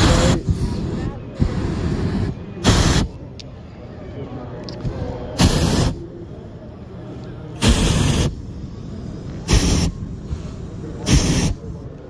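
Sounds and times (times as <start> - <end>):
propane burner blasts: 0.0 - 3.4, 5.3 - 12.0.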